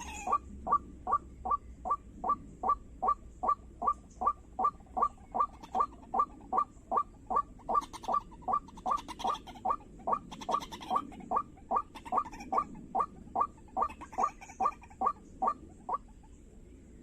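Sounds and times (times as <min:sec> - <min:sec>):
waterhen calling: 0:00.0 - 0:16.3.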